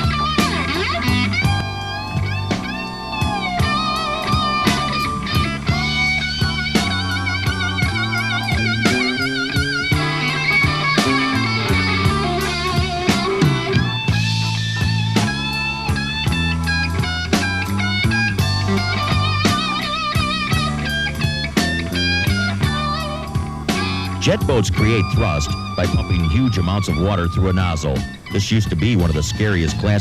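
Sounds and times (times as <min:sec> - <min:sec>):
bass: 0:00.0 - 0:30.0
electric guitar bent notes: 0:00.0 - 0:30.0
steady drum beat: 0:00.0 - 0:30.0.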